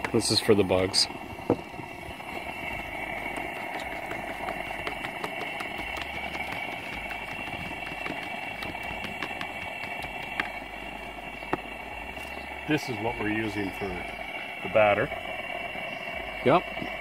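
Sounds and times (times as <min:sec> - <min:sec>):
gas stove burner hissing: 0:00.0 - 0:17.0.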